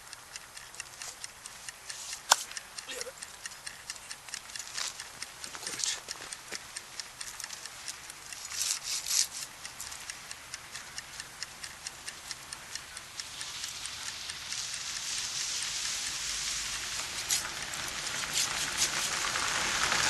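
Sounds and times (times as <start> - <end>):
campfire crackling: 0.1 - 20.0.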